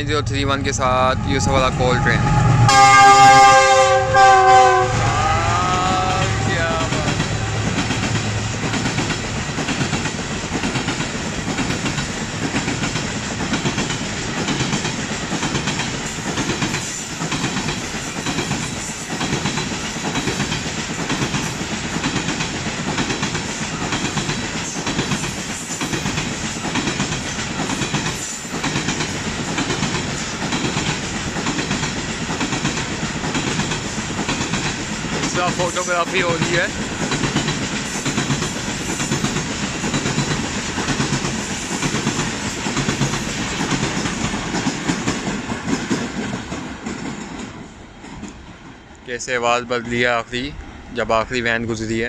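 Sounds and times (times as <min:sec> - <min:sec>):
train wheels clattering on rails: 0:06.2 - 0:49.0.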